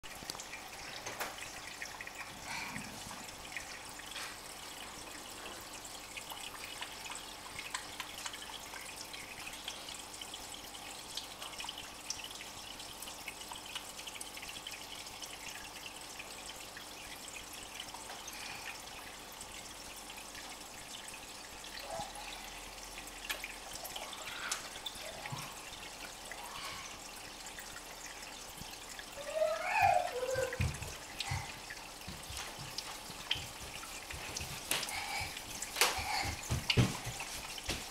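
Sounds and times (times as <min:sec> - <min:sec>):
water trickling and dripping: 0:00.0 - 0:37.9
faint steady hum: 0:00.1 - 0:37.9.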